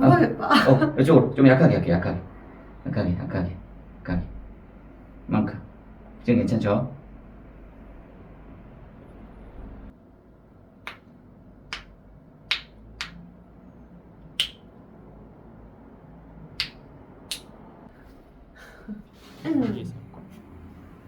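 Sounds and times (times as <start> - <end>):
faint room hum: 0.0 - 21.0.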